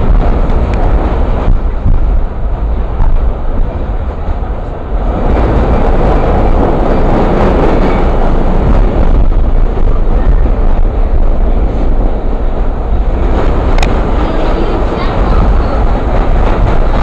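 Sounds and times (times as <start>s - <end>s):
subway train rumbling and rattling: 0.0s - 17.0s.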